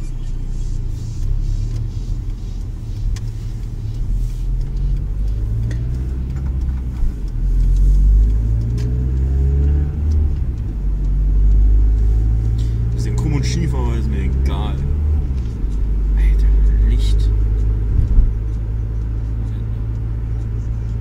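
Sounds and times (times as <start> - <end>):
car engine accelerating: 0.0 - 21.0
road noise inside car: 0.0 - 21.0.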